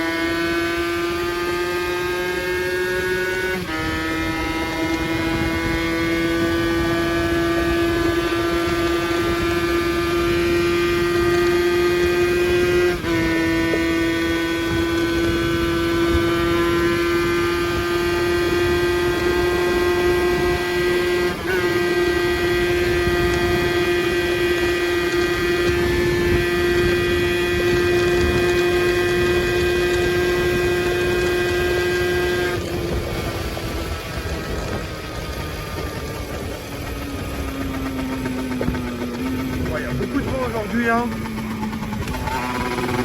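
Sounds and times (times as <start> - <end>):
motorbike engine buzzing: 0.0 - 43.0
wind noise: 0.0 - 43.0.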